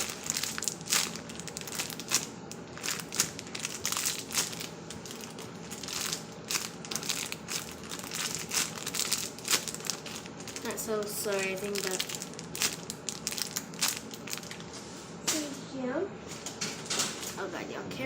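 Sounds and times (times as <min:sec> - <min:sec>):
plastic packaging crinkling: 0:00.0 - 0:14.9.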